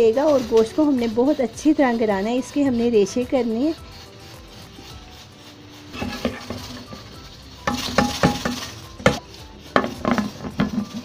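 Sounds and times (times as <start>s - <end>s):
metal spoon scraping pot: 0.0s - 11.0s.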